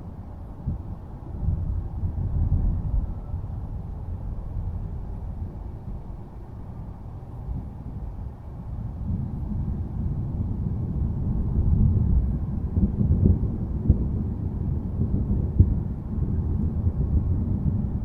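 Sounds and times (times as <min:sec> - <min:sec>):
rolling thunder rumble: 0:00.6 - 0:18.0.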